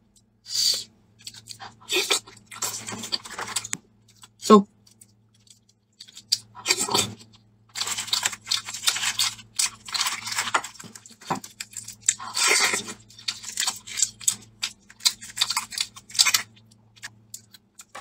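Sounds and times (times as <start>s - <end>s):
chewing: 1.2s - 18.0s
eggshell crackling: 1.2s - 18.0s.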